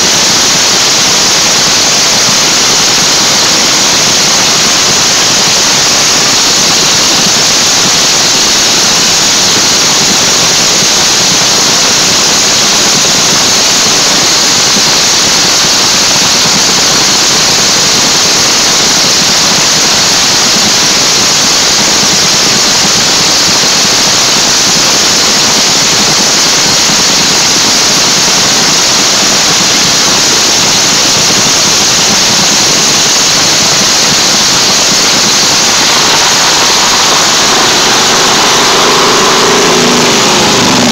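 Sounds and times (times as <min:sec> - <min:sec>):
dragster engine running loud: 0:00.0 - 0:40.9.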